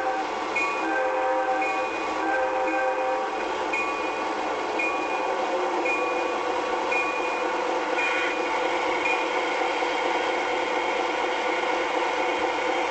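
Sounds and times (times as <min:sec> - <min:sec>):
train rumbling: 0:00.0 - 0:12.9.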